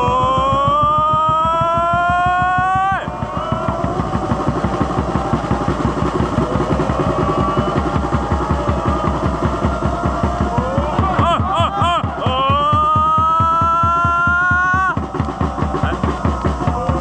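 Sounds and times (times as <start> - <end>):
crowd voices: 0.0 - 17.0
rapid even drumbeat: 0.0 - 17.0.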